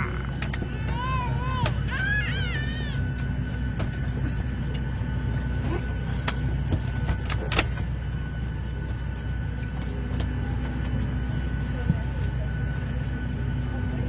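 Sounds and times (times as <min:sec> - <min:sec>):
airliner engine rumble: 0:00.0 - 0:14.0.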